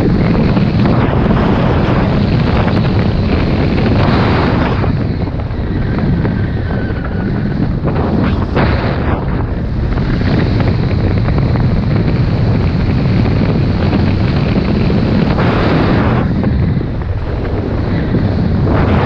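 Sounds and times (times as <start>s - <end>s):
snowboard sliding through snow: 0.0s - 19.0s
wind buffeting microphone: 0.0s - 19.0s.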